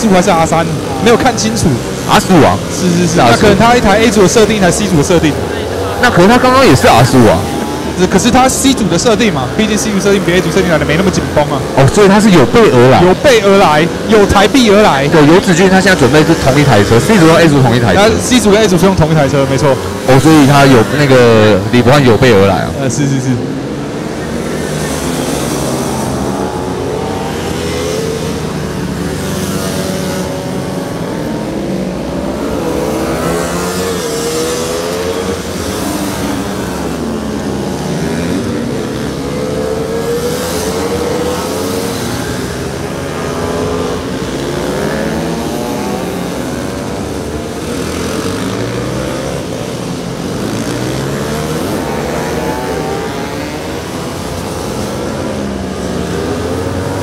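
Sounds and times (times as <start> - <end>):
racing motorcycle engines revving: 0.0 - 57.0.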